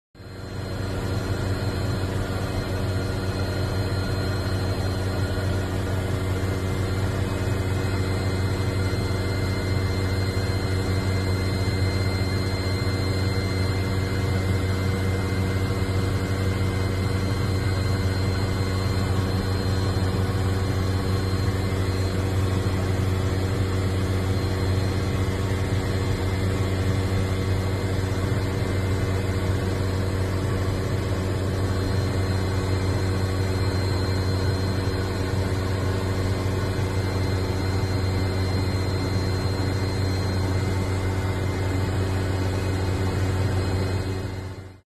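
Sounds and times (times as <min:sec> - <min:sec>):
aircraft engines humming in cabin: 0:00.2 - 0:44.8.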